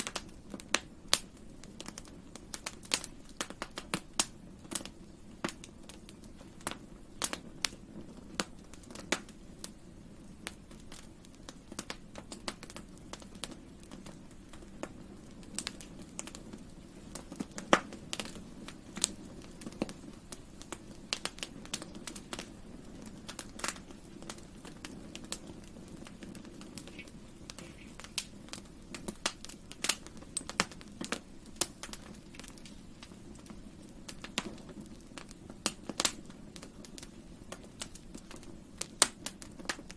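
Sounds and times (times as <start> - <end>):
campfire crackles and pops: 0.0 - 39.9
low hiss of flames: 0.0 - 39.9.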